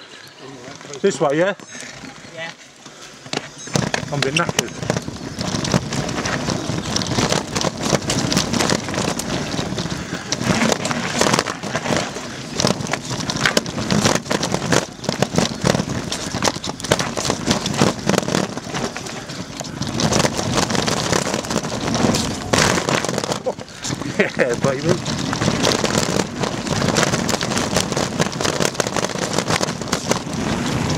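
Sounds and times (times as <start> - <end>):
bike tyres crunching over stones: 0.0 - 30.9
bike rattling and knocking: 3.3 - 30.9.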